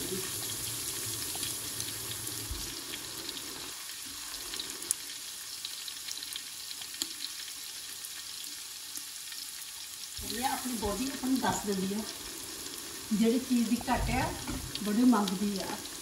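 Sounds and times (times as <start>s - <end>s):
oil crackles and pops: 0.0s - 16.0s
onion sizzling in hot oil: 0.0s - 16.0s.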